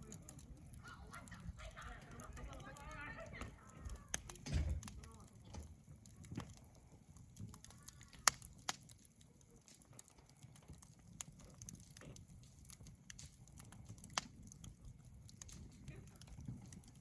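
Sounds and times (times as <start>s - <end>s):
low rustle of burning fire: 0.0s - 17.0s
wood fire crackling pops: 0.0s - 17.0s.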